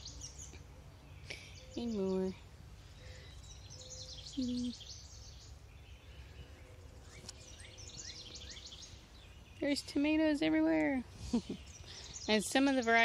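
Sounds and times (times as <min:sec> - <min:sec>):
low background noise: 0:00.0 - 0:13.0
songbirds chirping: 0:00.0 - 0:13.0.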